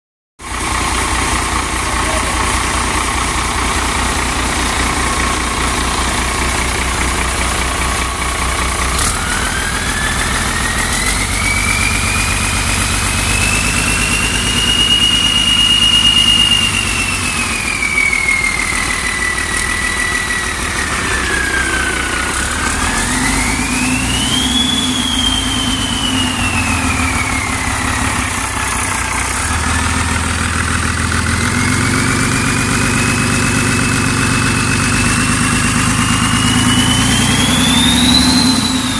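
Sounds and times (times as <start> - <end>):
diesel engine revving: 0.4 - 38.9
high engine whine: 0.4 - 38.9.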